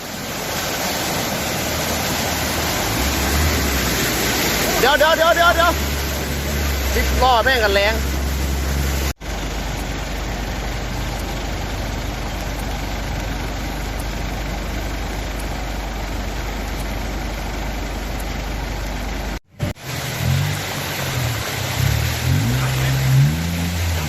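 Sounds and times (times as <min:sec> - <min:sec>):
flood water roaring: 0:00.0 - 0:24.0.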